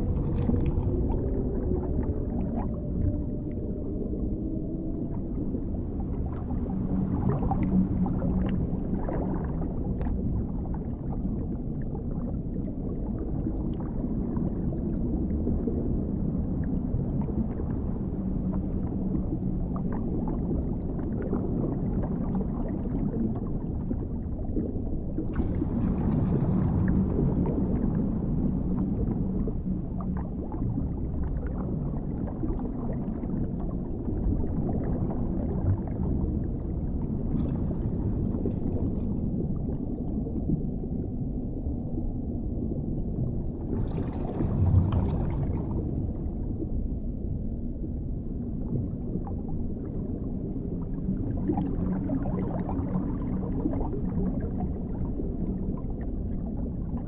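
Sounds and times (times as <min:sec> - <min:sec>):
deep underwater rumbling wash: 0:00.0 - 0:57.0.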